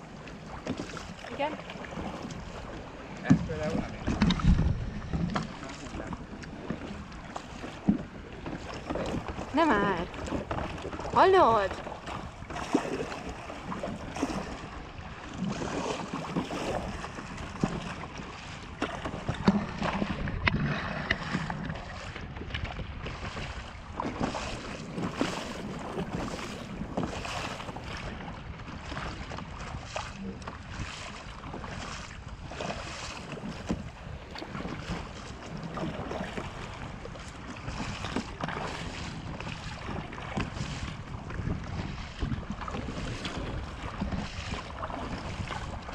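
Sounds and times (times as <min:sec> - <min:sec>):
paddle splashing in water: 0:00.0 - 0:45.9
water lapping against hull: 0:00.0 - 0:45.9
wind buffeting microphone: 0:00.0 - 0:45.9.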